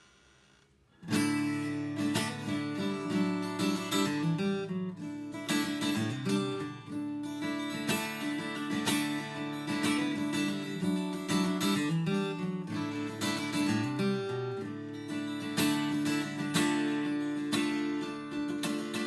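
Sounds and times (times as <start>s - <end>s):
acoustic guitar strummed: 1.0s - 19.0s.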